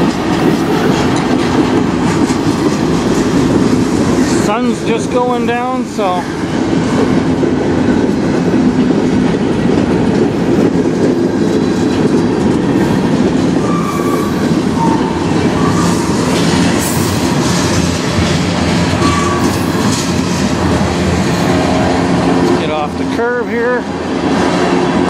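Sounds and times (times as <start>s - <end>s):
wheels clacking over rail joints: 0.0s - 6.0s, 6.6s - 25.0s
train wheels rumbling on rails: 0.0s - 25.0s.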